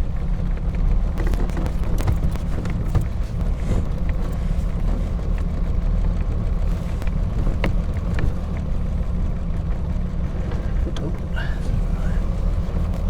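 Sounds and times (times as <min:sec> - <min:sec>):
bodywork clicks and rattles: 0:00.0 - 0:13.0
car engine and road rumble: 0:00.0 - 0:13.0.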